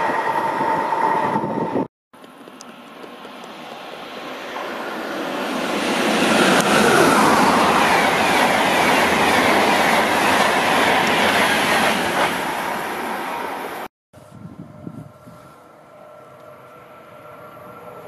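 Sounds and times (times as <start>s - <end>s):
locomotive whine: 0.0s - 1.9s, 2.7s - 18.0s
train passing at speed: 0.0s - 13.9s, 14.6s - 18.0s
wheels rushing on rails: 0.0s - 13.9s, 14.6s - 18.0s.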